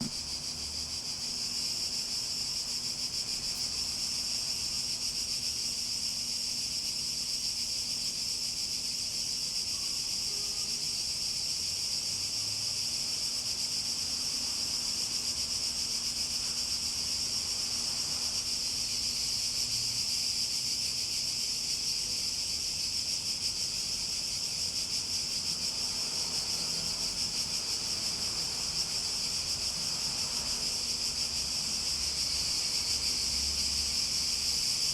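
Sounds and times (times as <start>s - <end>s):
cicadas droning: 0.0s - 34.9s.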